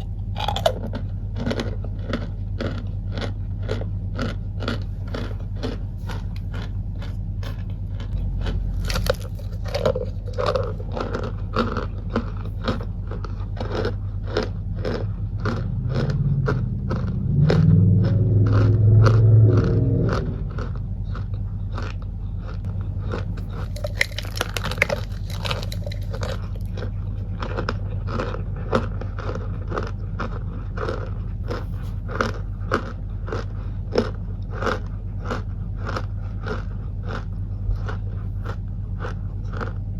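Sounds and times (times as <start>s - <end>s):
cornstarch crunching: 0.0s - 16.2s, 20.6s - 39.8s
low electrical hum: 0.0s - 39.9s
low rumble: 0.0s - 39.9s.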